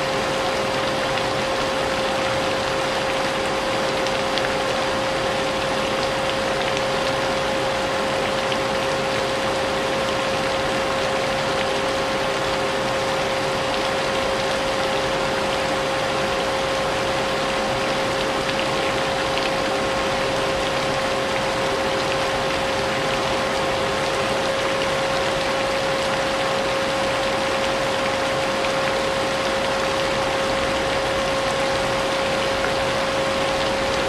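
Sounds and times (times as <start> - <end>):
rain hiss: 0.0 - 34.0.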